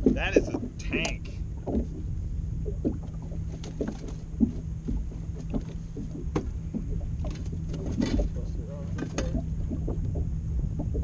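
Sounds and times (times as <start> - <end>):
boat engine rumble: 0.0 - 11.0
faint hum: 0.0 - 11.0
water knocking and splashing on hull: 0.0 - 11.0.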